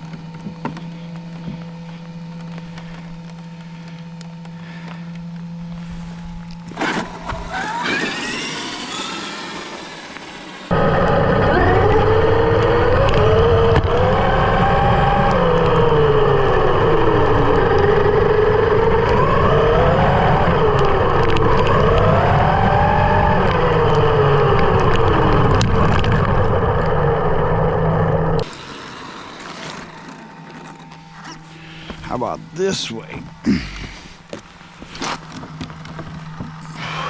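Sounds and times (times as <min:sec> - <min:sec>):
motor running: 0:00.0 - 0:37.0.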